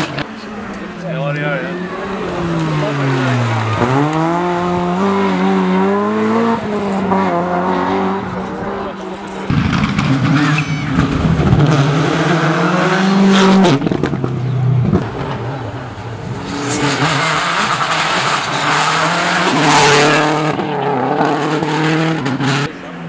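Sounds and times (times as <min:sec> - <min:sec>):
rally car engines at full throttle: 0:00.0 - 0:23.0
road and tyre noise: 0:00.0 - 0:23.0.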